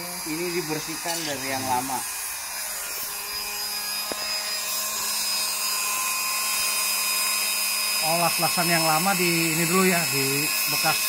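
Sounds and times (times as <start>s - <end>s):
electric die grinder grinding metal: 0.0s - 11.0s.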